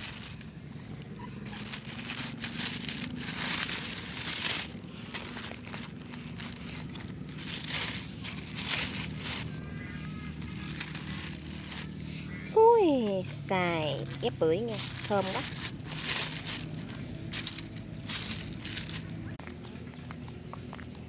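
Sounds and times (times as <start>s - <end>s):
plastic bag crinkling: 0.0s - 19.4s.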